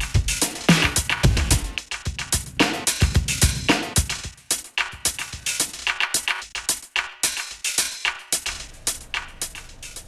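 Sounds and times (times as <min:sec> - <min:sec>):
electronic percussive music: 0:00.0 - 0:10.0.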